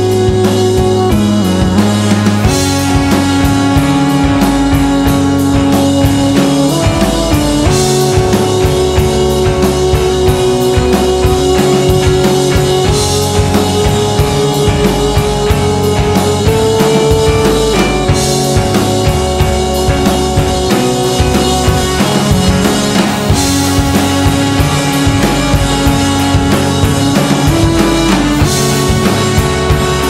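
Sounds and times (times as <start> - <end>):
drum beat: 0.0 - 30.0
held melody notes: 0.0 - 30.0.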